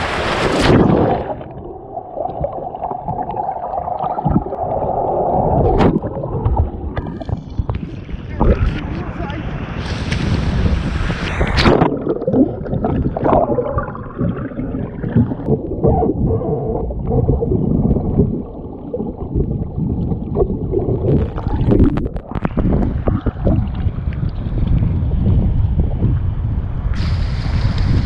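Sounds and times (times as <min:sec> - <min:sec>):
muffled water sloshing and gurgling: 0:00.0 - 0:28.0.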